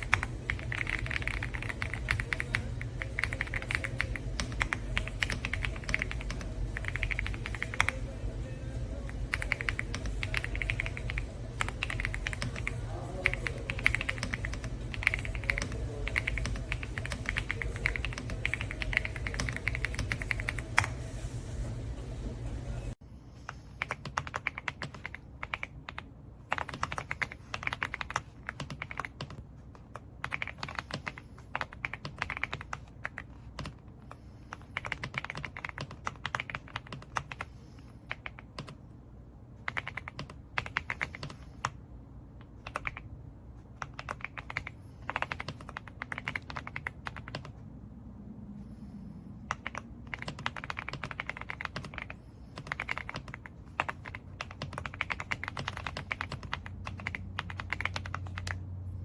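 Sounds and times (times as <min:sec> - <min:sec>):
mechanical keyboard typing: 0:00.0 - 0:08.1, 0:09.1 - 0:21.0, 0:23.8 - 0:33.8, 0:34.5 - 0:37.5, 0:39.6 - 0:41.8, 0:42.5 - 0:43.1, 0:43.8 - 0:47.6, 0:49.5 - 0:58.6.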